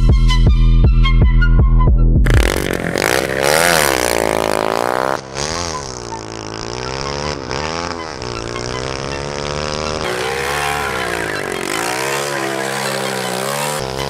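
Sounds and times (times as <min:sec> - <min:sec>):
go-kart engine running hard: 0:02.3 - 0:14.0.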